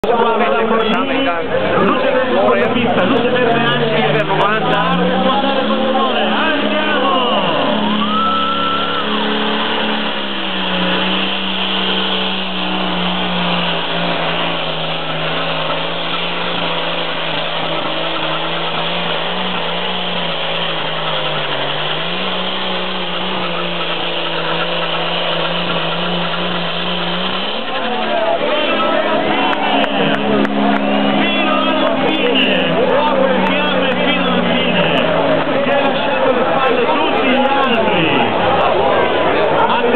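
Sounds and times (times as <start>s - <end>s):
pulling tractor engine drone: 0.0s - 39.9s.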